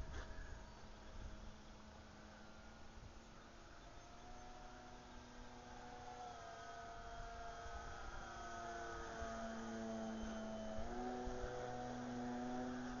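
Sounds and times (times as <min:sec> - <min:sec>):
model plane motor droning: 0:00.0 - 0:13.0.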